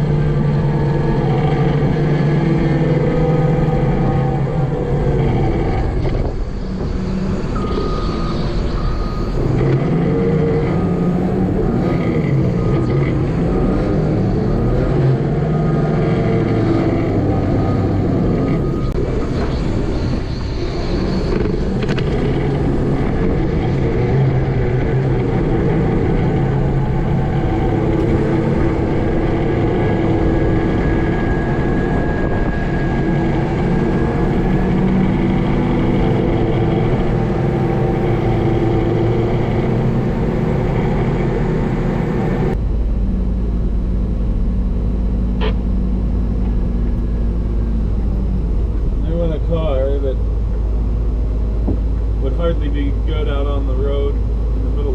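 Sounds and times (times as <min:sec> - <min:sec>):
vehicle engine running loudly: 0:00.0 - 0:54.9.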